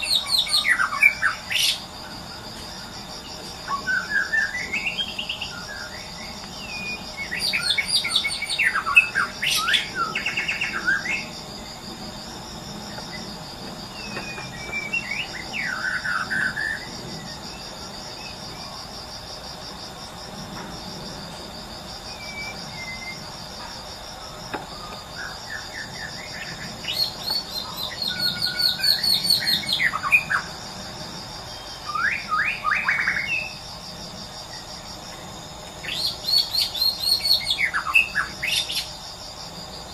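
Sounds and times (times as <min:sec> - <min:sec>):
insects pulsing buzz: 0:00.0 - 0:39.9.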